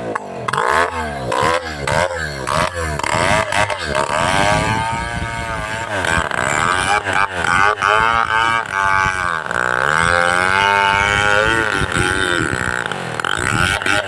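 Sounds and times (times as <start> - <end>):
chainsaw cutting tree: 0.0 - 14.0.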